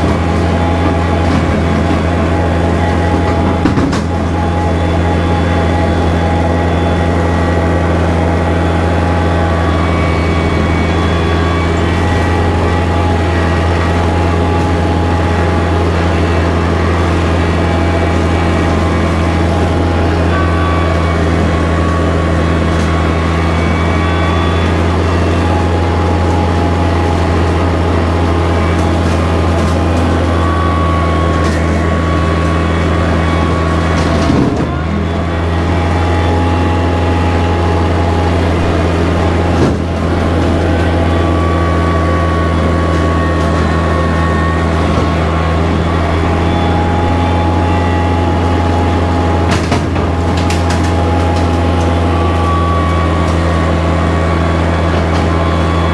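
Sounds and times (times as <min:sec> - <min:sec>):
tractor engine with rotary cutter: 0:00.0 - 0:55.9.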